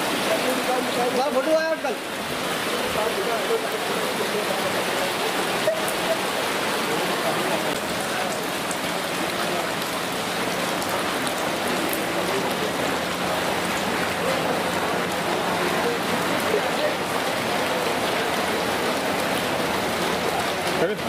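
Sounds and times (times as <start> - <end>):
heavy rain on standing water: 0.0 - 21.0.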